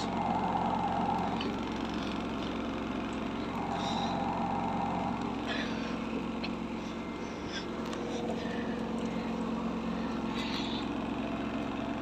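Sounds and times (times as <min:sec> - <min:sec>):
washing machine spin cycle hum: 0:00.0 - 0:12.0.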